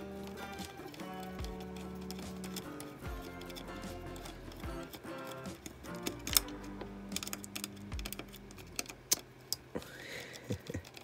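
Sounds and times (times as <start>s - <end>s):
screwdriver clicking on metal: 0.0s - 9.6s.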